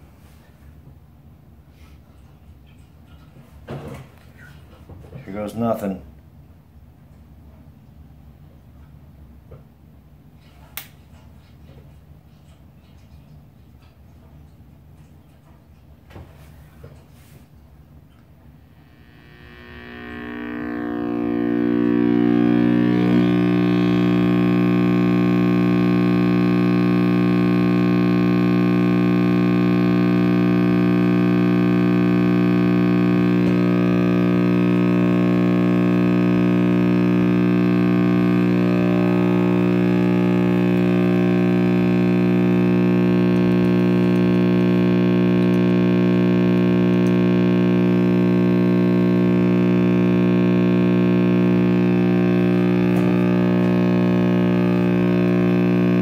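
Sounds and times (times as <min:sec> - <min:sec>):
radio speaker mains hum: 0:00.0 - 0:13.5, 0:14.2 - 0:56.0.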